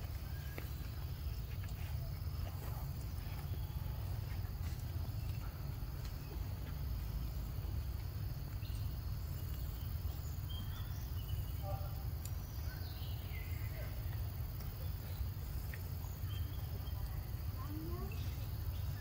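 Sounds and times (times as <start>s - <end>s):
faint insect chirring: 0.1s - 19.0s.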